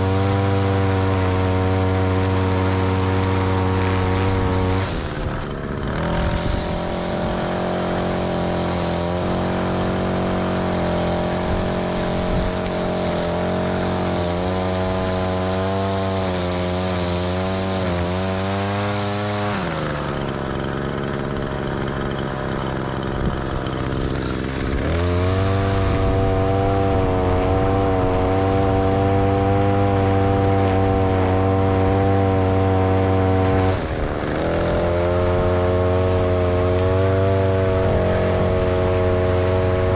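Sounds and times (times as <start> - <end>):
string trimmer engine running: 0.0 - 39.9.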